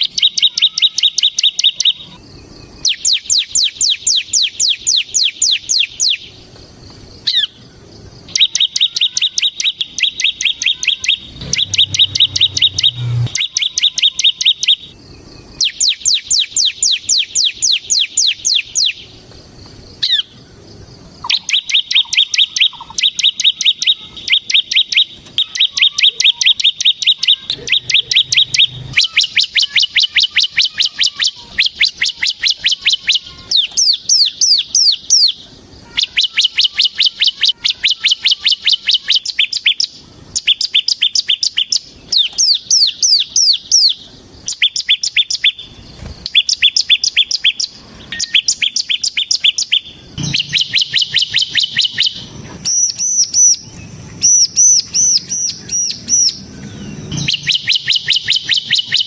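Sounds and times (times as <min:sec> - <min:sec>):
bird singing rapid trills: 0:00.0 - 0:59.0.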